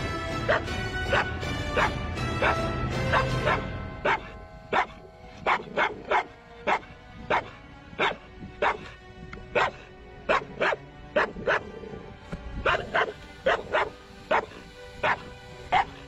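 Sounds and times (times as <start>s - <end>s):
background music: 0.0s - 16.0s
dog barking: 0.4s - 11.8s, 12.6s - 16.0s.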